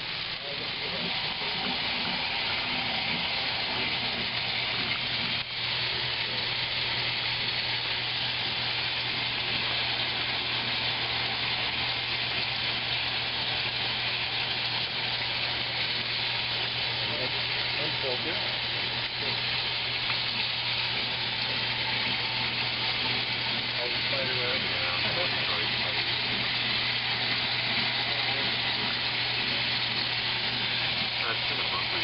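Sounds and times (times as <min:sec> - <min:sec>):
low motor hum: 0:00.0 - 0:32.0
washing machine hiss: 0:00.0 - 0:32.0.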